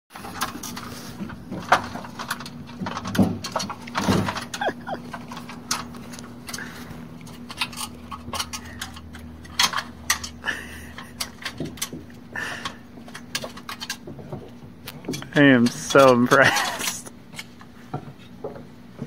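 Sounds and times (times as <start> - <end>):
dog claws tapping on metal ladder: 0.1 - 19.0.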